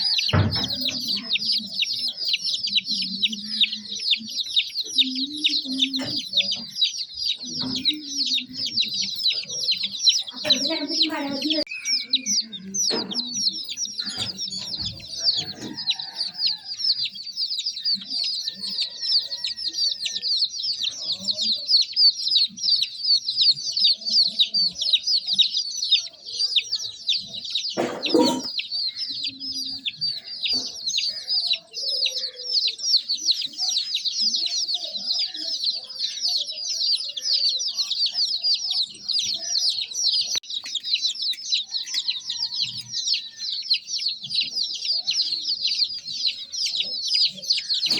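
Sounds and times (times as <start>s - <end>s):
baby chicks peeping: 0.0s - 47.9s.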